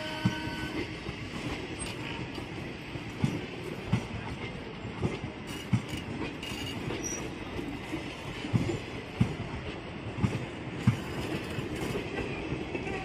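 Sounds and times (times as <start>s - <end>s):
wheels clacking over rail joints: 0.0s - 13.0s
wheels rumbling on track: 0.0s - 13.0s.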